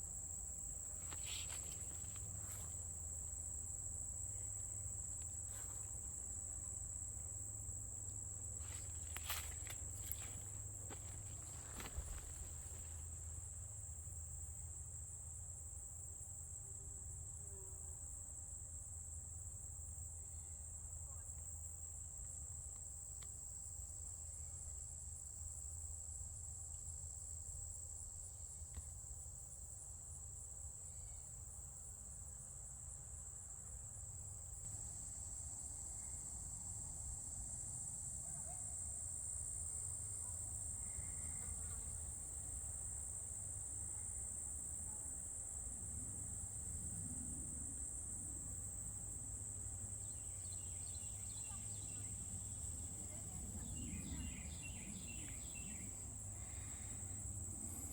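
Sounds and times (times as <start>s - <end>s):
insects trilling: 0.0s - 20.4s, 21.0s - 57.9s.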